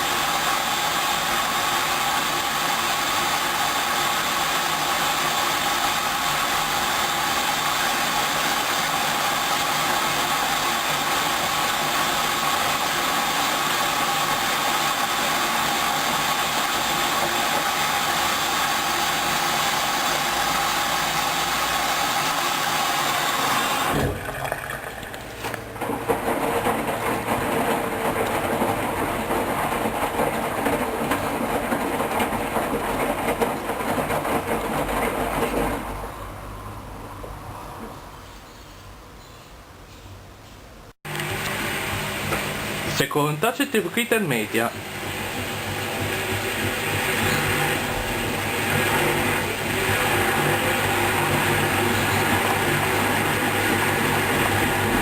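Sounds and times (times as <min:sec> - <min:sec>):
washing machine whirring: 0:00.0 - 0:38.2, 0:41.0 - 0:55.0.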